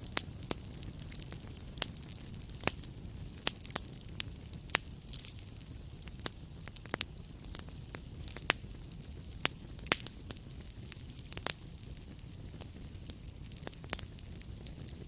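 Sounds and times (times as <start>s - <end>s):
fire crackling and popping: 0.0s - 15.0s
fire low rumble and hiss: 0.0s - 15.0s.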